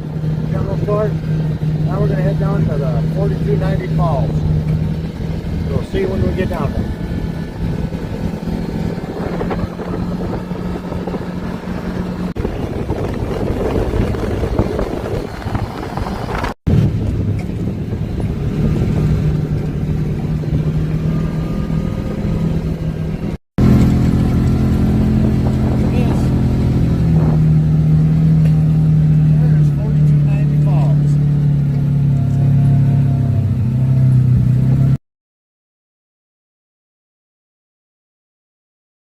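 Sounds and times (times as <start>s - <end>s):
off-road vehicle engine: 0.0s - 35.0s
road and wind noise: 0.0s - 35.0s.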